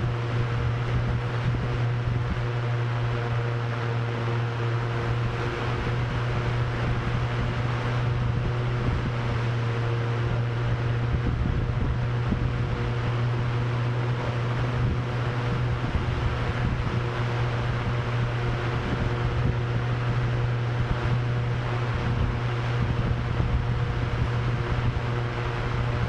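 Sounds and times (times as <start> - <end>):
drone propellers humming: 0.0 - 26.0
wind noise: 0.0 - 26.0.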